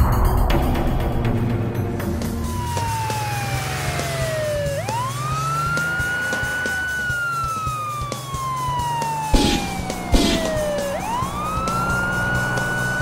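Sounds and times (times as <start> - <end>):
police siren wailing: 2.3 - 13.0.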